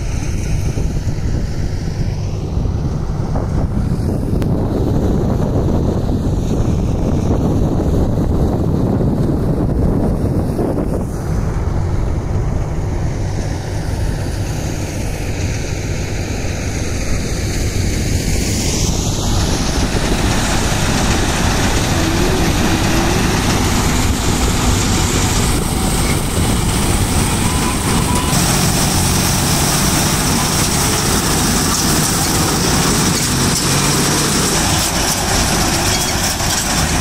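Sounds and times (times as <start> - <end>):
combine harvester running: 0.0 - 37.0
wind buffeting microphone: 0.0 - 37.0.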